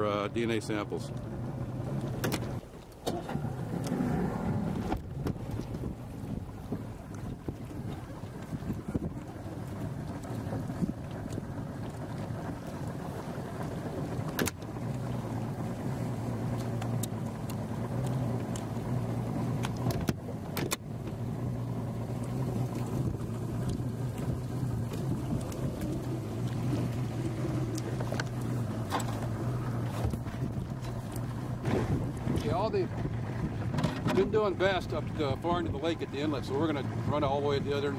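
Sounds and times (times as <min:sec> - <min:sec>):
boat motor idling: 0:00.0 - 0:37.9.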